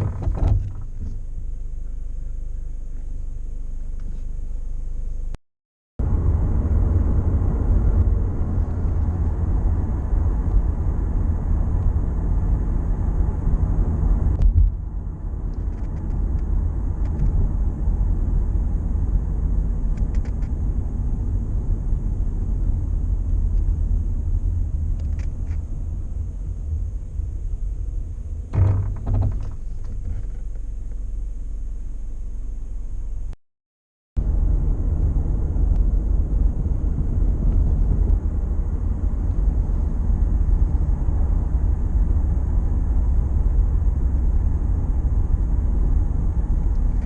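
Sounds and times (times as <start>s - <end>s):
engine and road rumble in car: 0.0s - 5.4s, 6.0s - 33.4s, 34.2s - 47.0s.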